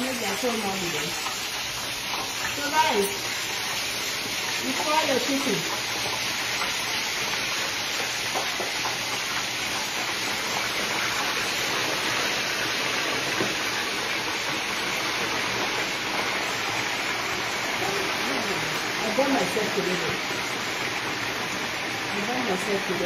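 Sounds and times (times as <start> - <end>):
chicken deep-frying in oil: 0.0 - 23.0.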